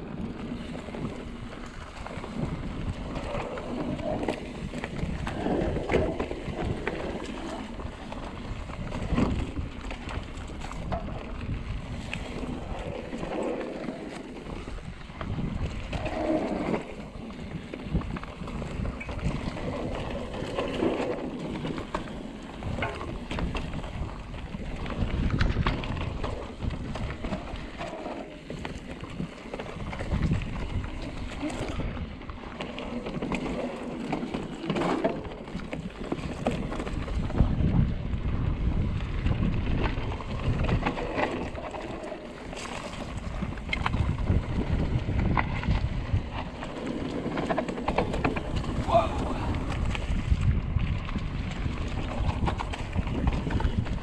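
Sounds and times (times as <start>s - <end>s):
bike tyres rumbling over dirt: 0.0s - 54.0s
wind buffeting microphone: 0.0s - 54.0s.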